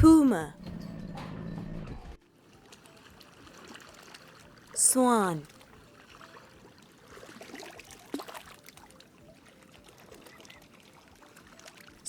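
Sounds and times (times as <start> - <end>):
water splashing and trickling: 2.2 - 12.0.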